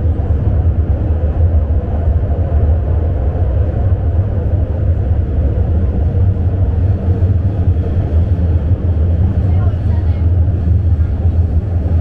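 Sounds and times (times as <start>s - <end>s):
rushing noise: 0.0s - 12.0s
train wheels rumbling: 0.0s - 12.0s.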